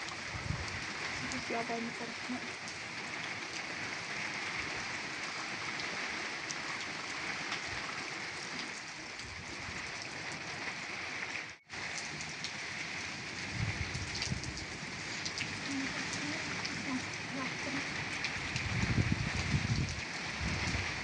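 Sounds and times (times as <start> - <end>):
torrential rain falling: 0.0 - 21.0.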